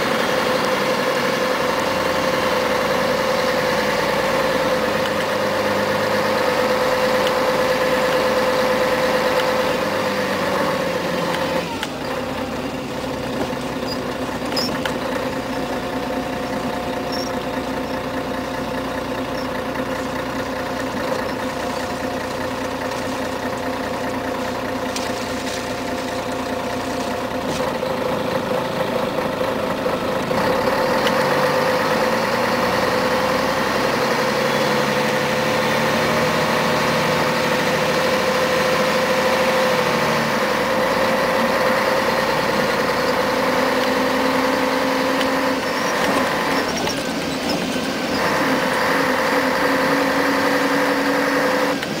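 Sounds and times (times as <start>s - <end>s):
bus diesel engine: 0.0s - 52.0s.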